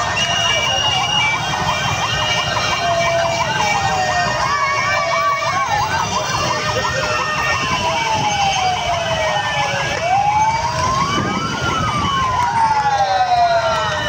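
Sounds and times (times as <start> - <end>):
crowd noise: 0.0 - 14.0
fast warbling siren: 0.0 - 14.0
wailing siren: 0.0 - 14.0.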